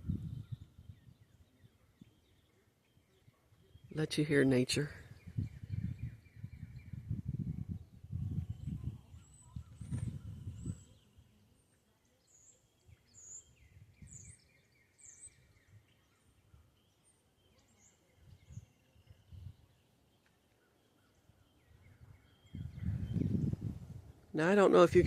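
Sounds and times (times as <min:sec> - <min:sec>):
bird chirping: 0:00.0 - 0:24.9.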